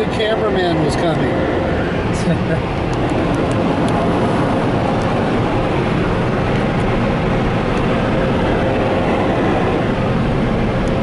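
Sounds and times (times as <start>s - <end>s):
car road noise rushing: 0.0s - 11.0s.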